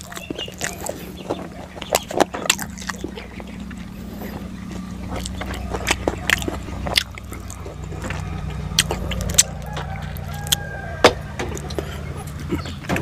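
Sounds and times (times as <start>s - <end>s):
smacking and chewing: 0.0s - 13.0s
steady low hum: 0.0s - 13.0s.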